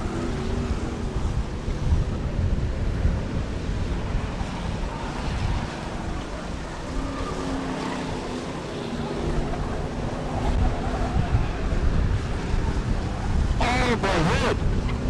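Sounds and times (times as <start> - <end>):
racing car engines rumbling: 0.0 - 15.0.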